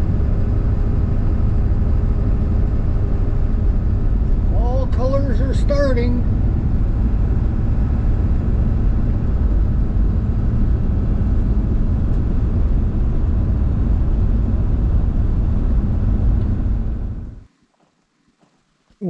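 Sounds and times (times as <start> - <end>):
vehicle driving on road: 0.0 - 17.5.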